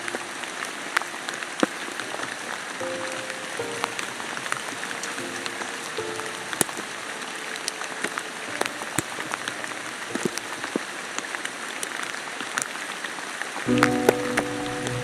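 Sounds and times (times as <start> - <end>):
rain hissing: 0.0 - 15.0
raindrops ticking close by: 0.0 - 15.0.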